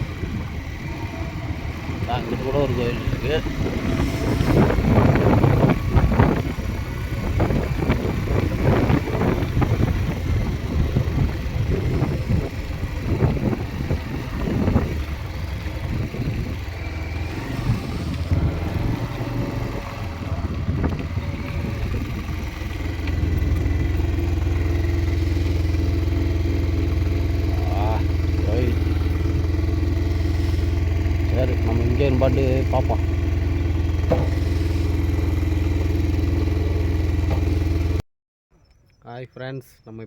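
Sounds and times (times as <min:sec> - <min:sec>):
clattering on dirt road: 0:00.0 - 0:38.0
motorcycle engine running: 0:00.0 - 0:38.0.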